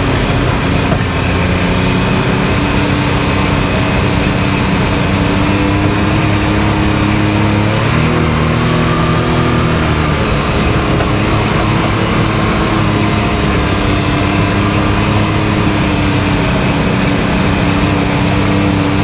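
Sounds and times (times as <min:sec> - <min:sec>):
turbocharged engine driving: 0:00.0 - 0:19.0.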